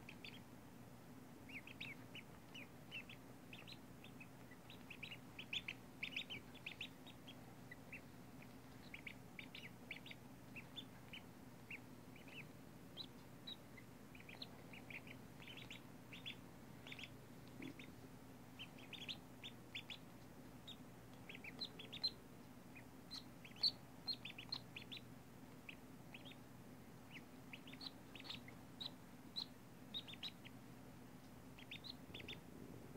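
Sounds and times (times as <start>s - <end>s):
ducklings peeping: 0.0s - 32.9s
faint steady hum: 0.0s - 32.9s.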